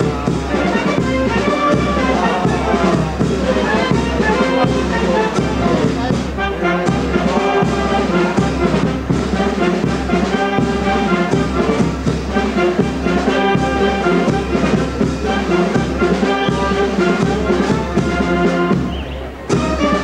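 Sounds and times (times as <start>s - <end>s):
brass instruments sustained notes: 0.0s - 20.0s.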